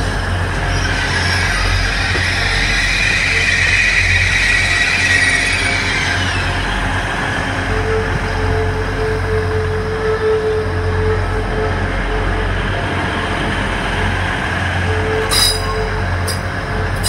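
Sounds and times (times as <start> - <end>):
diesel engine rumble: 0.0 - 17.0
train wheel squeal: 0.0 - 17.0.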